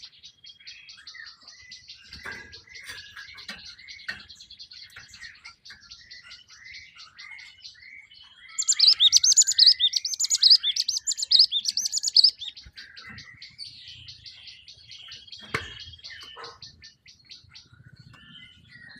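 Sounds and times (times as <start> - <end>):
sparrows chirping: 0.0 - 18.9.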